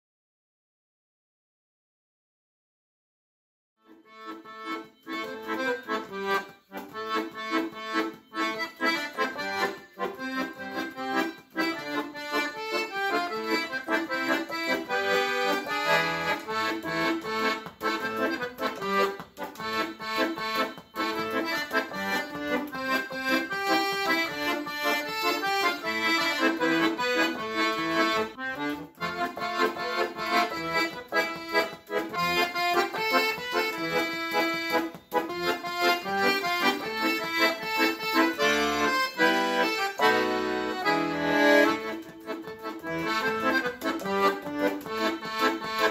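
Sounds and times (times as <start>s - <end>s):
piano accordion melody: 3.8s - 45.9s.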